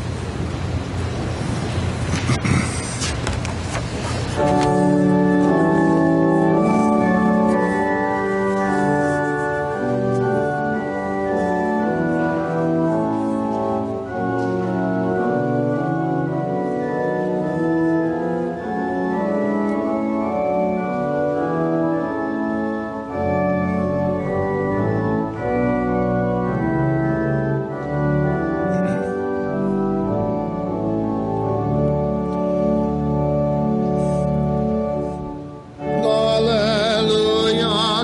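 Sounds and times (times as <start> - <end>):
church organ sustained chords: 4.4 - 38.0
deep organ bass notes: 4.4 - 38.0.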